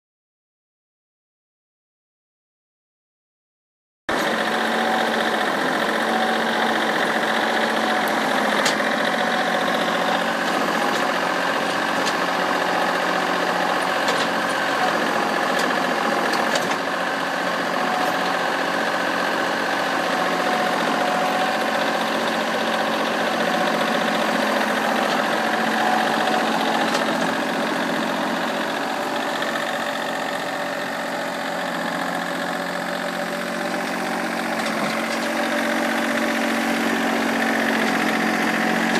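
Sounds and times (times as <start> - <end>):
tractor engine running: 4.1 - 38.9.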